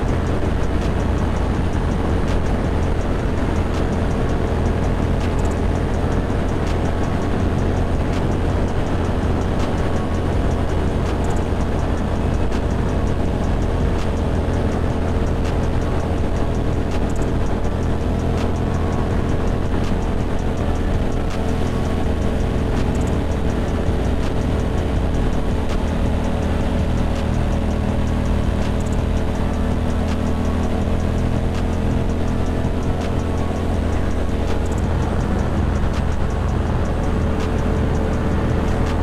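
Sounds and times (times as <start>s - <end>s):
motorcycle engine cruising: 0.0s - 39.0s
wind and road noise: 0.0s - 39.0s.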